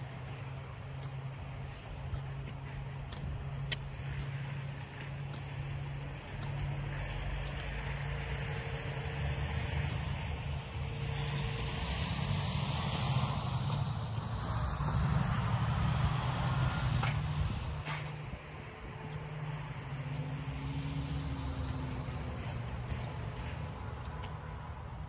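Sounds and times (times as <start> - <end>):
faint sharp ticks: 0.0 - 17.2, 17.8 - 24.7
low engine-like hum: 0.0 - 25.0.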